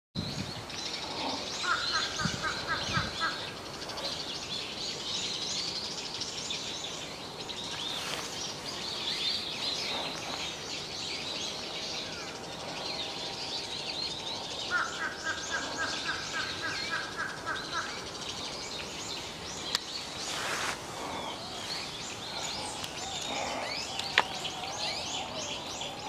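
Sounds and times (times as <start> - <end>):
birds chirping: 0.2 - 26.0.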